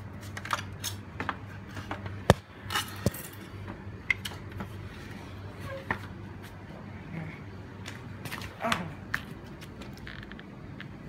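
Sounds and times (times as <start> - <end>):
air conditioner units humming: 0.0 - 11.0.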